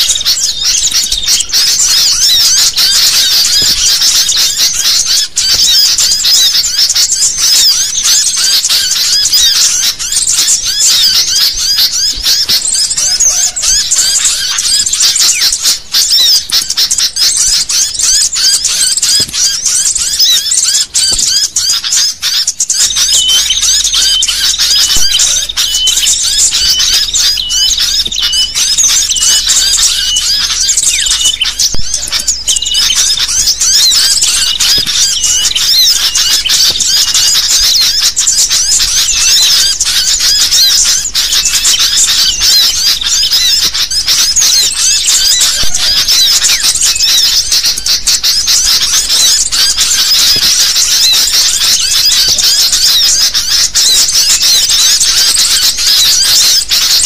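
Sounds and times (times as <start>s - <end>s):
bulbuls chattering: 0.0s - 57.0s.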